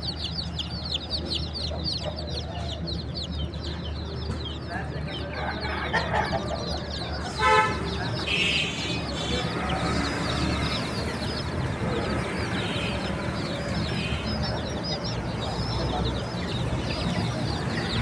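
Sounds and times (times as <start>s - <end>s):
baby chicks peeping: 0.0s - 18.0s.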